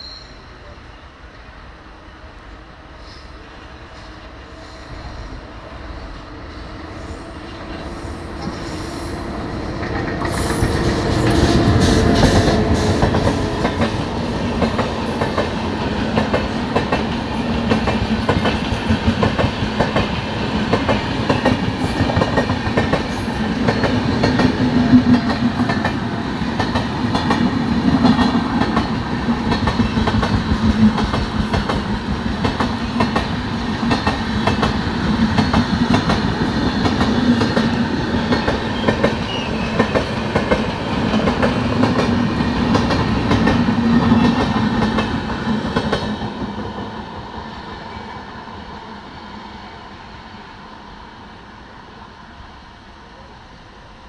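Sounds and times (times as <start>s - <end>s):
train rumble: 0.5s - 49.2s.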